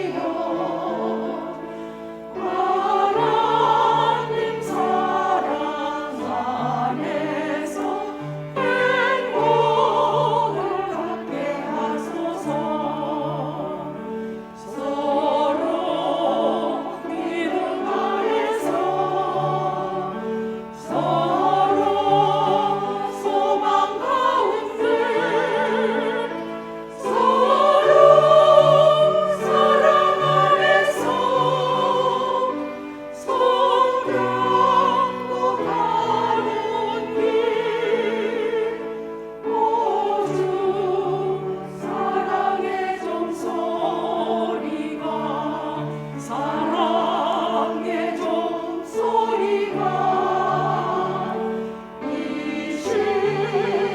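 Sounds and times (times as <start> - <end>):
choir singing a hymn: 0.0 - 53.9.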